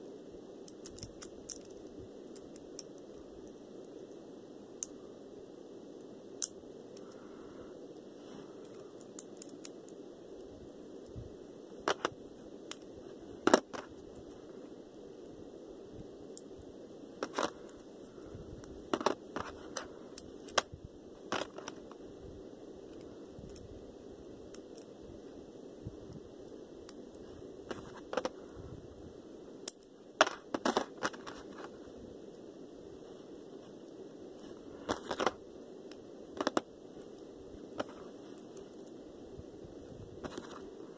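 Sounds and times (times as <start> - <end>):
steady hiss: 0.0 - 40.9
steady low hum: 0.0 - 40.9.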